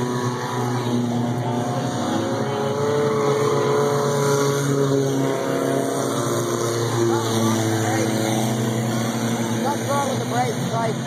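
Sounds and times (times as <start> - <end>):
race car engines: 0.0 - 11.0.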